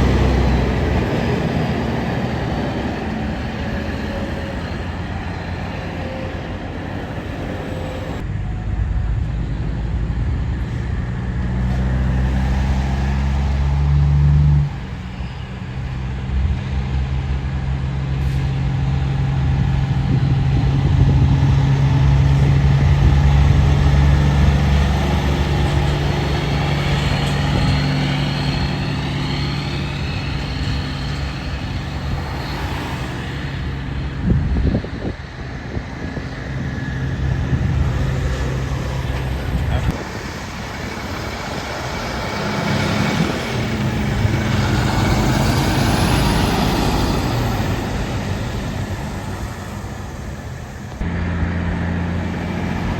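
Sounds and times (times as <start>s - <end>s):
diesel truck engine droning: 0.0s - 52.9s.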